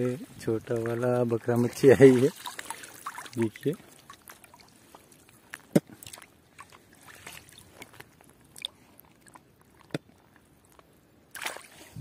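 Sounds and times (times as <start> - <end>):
water sloshing and dripping: 0.2 - 10.4, 11.3 - 12.0.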